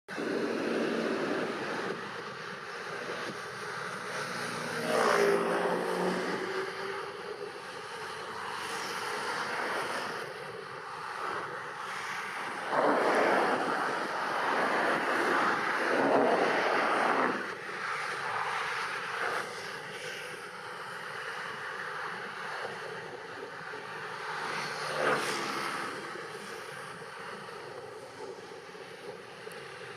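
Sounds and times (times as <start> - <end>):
passing engine hum: 0.1 - 29.9
wind on microphone: 0.1 - 29.9.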